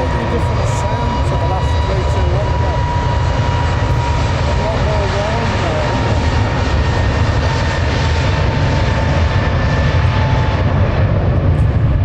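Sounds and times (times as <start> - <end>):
jet engine whine: 0.0 - 12.0
jet engines rumbling: 0.0 - 12.0.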